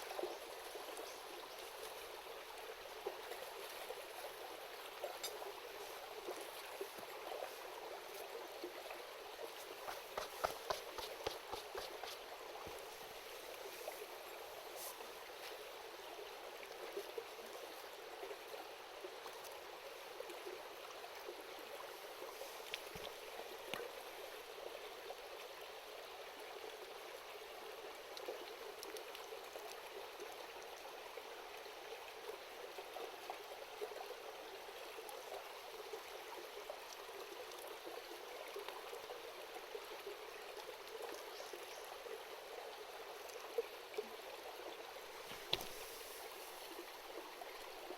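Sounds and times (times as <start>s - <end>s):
shallow river babbling: 0.0s - 47.9s.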